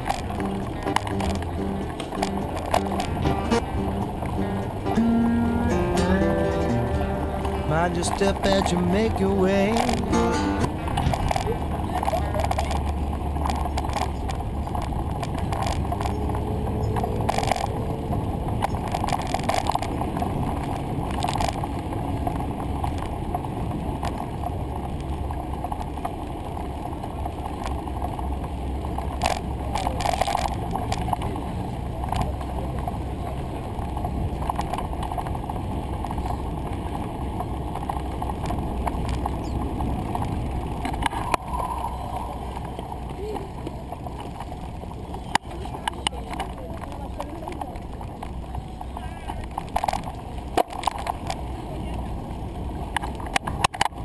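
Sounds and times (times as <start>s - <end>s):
bicycle rolling noise: 0.0s - 7.4s, 9.0s - 54.0s
wind rumble on microphone: 10.7s - 54.0s.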